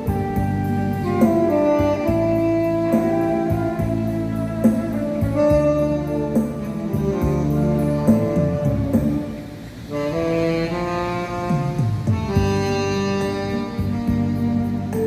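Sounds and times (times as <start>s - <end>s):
band accompaniment with bass: 0.0s - 15.0s
tenor saxophone melody: 0.0s - 15.0s.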